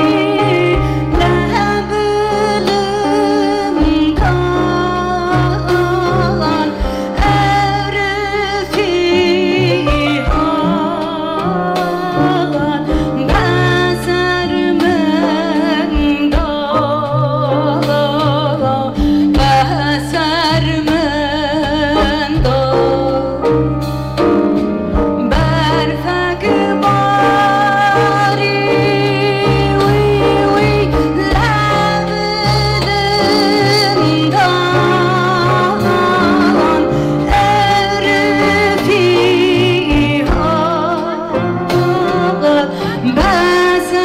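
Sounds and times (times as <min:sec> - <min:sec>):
woman singing into a microphone: 0:00.0 - 0:24.0, 0:24.9 - 0:44.0.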